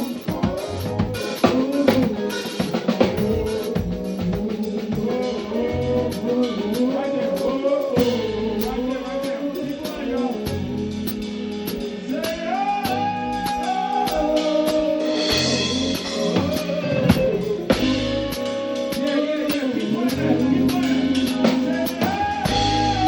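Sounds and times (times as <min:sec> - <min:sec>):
drum kit beat: 0:00.0 - 0:23.0
live band music: 0:00.0 - 0:23.0.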